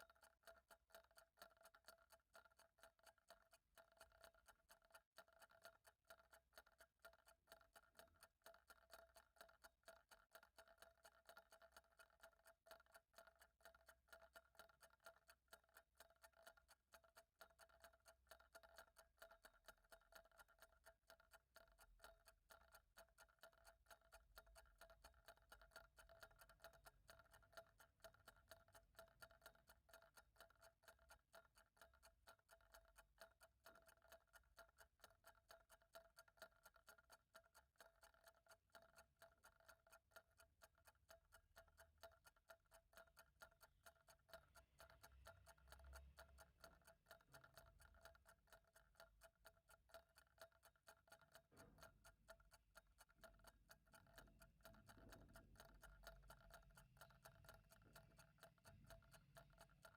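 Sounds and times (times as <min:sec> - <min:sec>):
faint clock ticking: 0:00.0 - 0:59.9.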